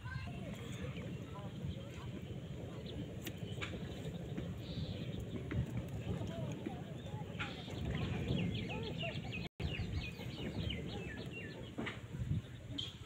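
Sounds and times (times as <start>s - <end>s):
steady low rumble: 0.0s - 12.8s
lower curving bird calls: 0.4s - 13.0s.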